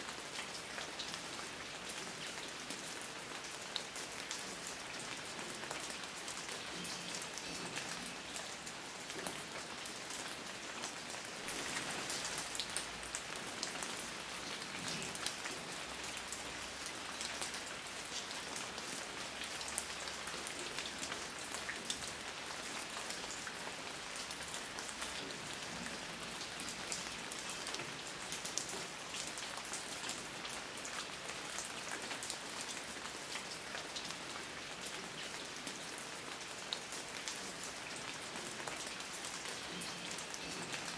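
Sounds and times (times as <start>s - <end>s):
raindrops ticking on a surface: 0.0s - 40.9s
steady rain falling: 0.0s - 40.9s.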